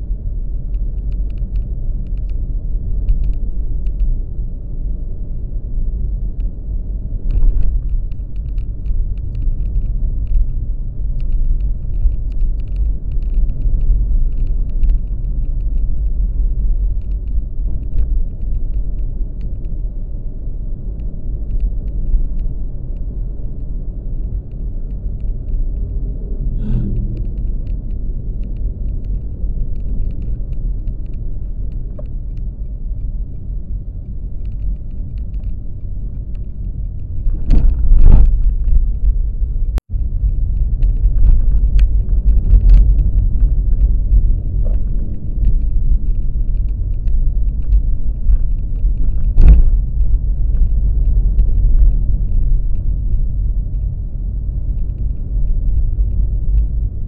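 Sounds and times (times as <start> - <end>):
vehicle rumble: 0.0 - 57.0.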